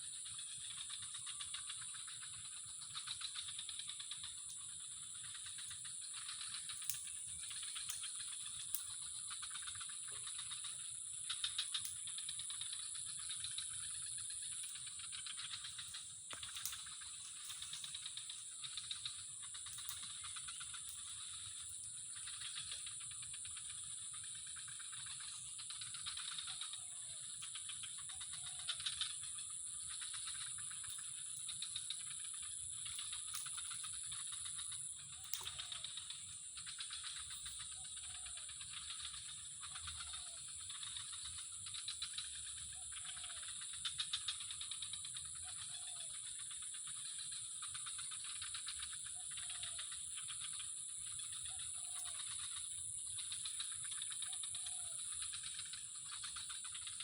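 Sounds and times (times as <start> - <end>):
faint ticks: 0.0 - 57.0
insects chirping: 0.0 - 57.0.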